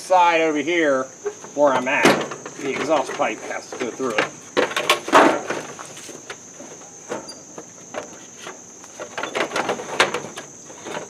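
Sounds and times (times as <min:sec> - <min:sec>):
high insect drone: 0:00.0 - 0:11.0
plastic panel knocks and scrapes: 0:01.2 - 0:11.0.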